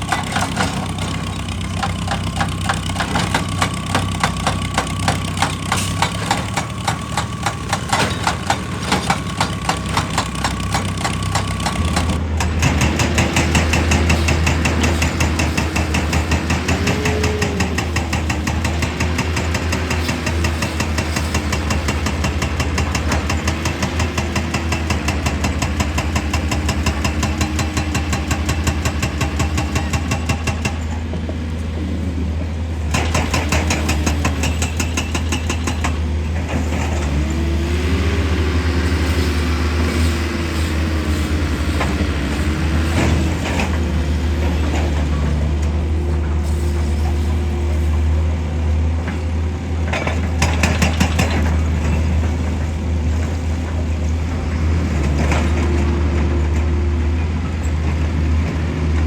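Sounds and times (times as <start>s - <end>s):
diesel machinery engine rumbling: 0.0s - 59.0s.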